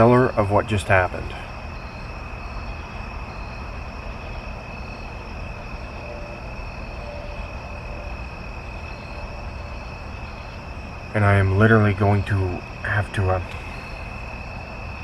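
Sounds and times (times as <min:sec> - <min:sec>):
insects trilling: 0:00.0 - 0:15.0
low background noise: 0:00.0 - 0:15.0.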